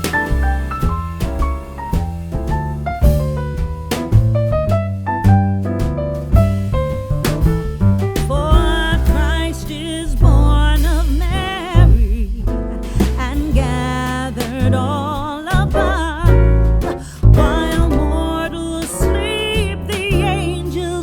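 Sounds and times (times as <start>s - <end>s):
keyboard and bass accompaniment: 0.0s - 21.0s.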